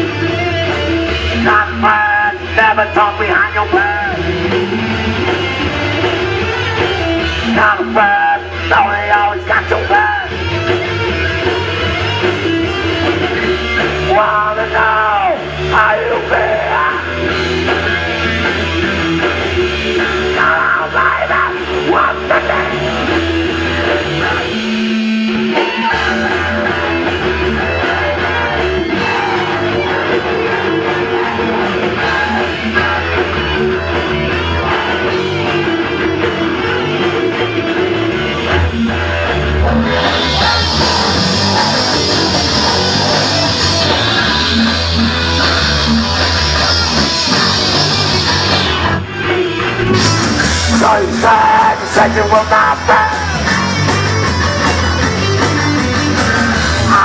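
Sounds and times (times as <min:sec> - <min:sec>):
drums: 0:00.0 - 0:57.0
electric guitar: 0:00.0 - 0:57.0.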